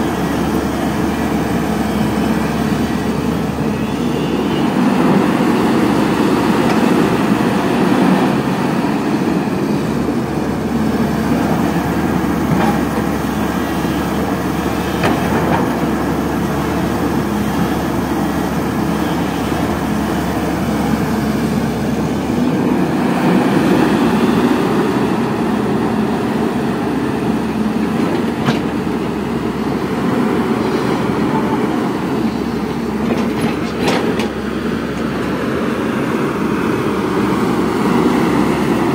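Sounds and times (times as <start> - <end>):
diesel engine running under load: 0.0 - 38.9
excavator hydraulics working: 0.0 - 38.9.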